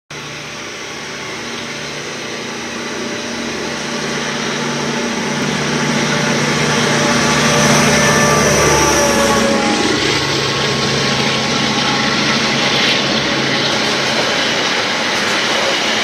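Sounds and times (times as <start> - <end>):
diesel locomotive engine drone: 0.1 - 16.0.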